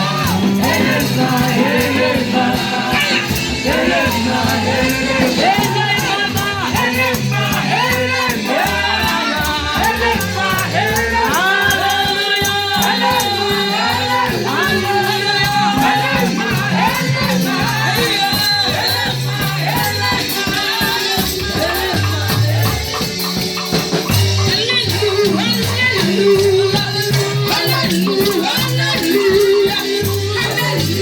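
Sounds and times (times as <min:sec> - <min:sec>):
gospel worship music: 0:00.0 - 0:31.0
shaker rhythm: 0:00.0 - 0:31.0.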